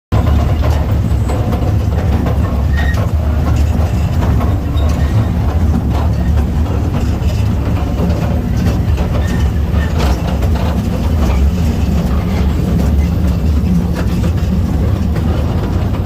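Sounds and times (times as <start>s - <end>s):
diesel train engine drone: 0.1s - 16.0s
train wheels clicking on track: 0.1s - 16.0s.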